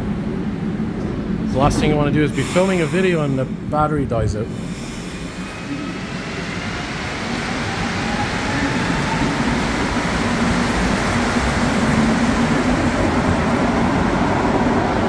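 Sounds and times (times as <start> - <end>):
train rolling through station: 0.0 - 15.0.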